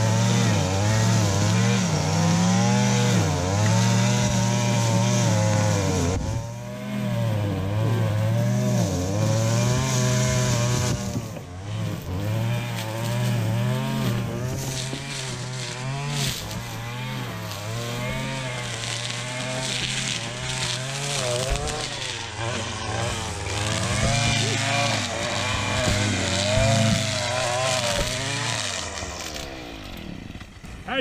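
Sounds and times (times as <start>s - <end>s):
trimmer line hissing through grass: 0.0s - 30.6s
string trimmer engine: 0.0s - 31.0s.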